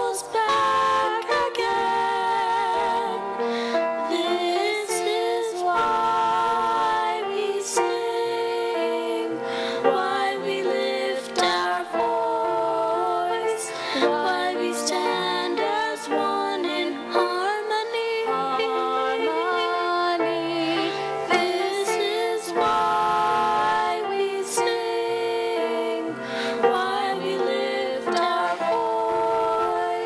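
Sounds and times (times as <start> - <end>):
woman and girl singing duet: 0.0 - 30.0.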